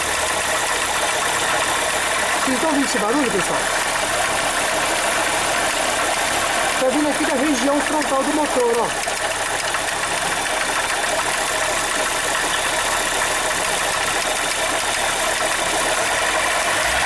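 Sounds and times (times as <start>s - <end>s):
abnormal engine noise: 0.0s - 17.0s
car engine idling: 0.0s - 17.0s.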